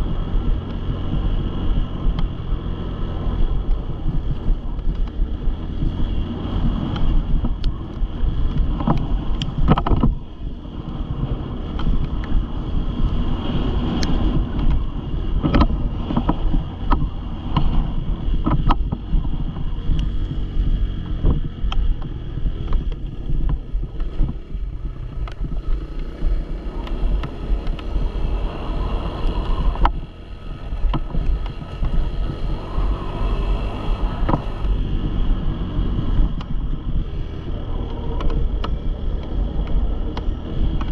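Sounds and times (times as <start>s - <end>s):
dirt bike engine running: 0.0s - 40.9s
wind noise on microphone: 0.0s - 40.9s.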